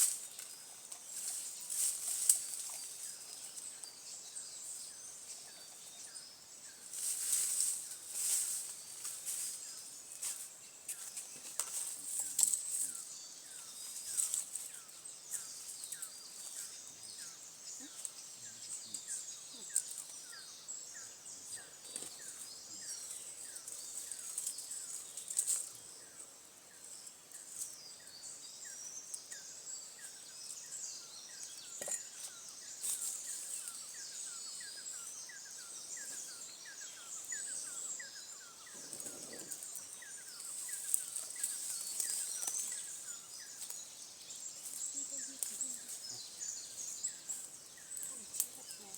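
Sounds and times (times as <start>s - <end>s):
birds calling: 9.4s - 48.9s.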